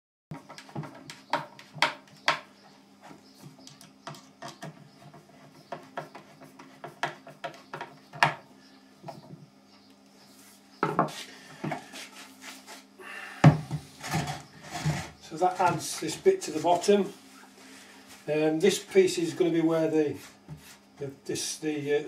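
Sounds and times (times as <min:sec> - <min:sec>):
steady low hum: 0:00.4 - 0:22.0.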